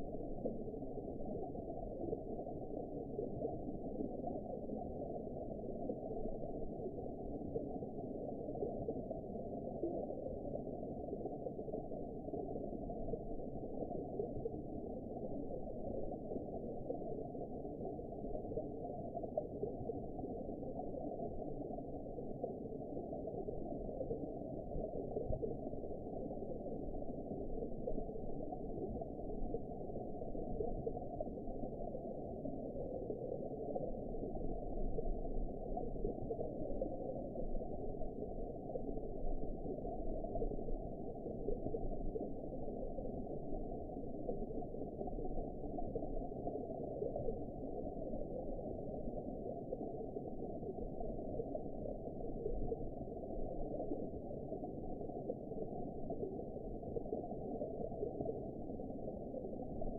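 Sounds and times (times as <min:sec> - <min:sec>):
underwater water noise: 0:00.0 - 0:59.9.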